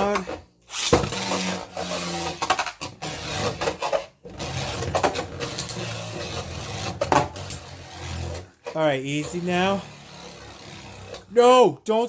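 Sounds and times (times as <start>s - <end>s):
spinning tops scraping rasp: 0.0s - 11.4s.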